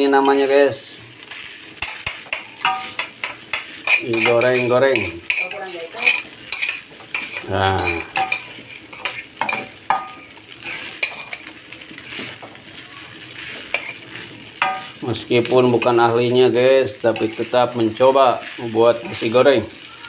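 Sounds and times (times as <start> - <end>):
rice sizzling in a wok: 0.0 - 20.0
spatula scraping and clinking pan: 0.1 - 12.6, 13.3 - 15.0, 17.0 - 19.4.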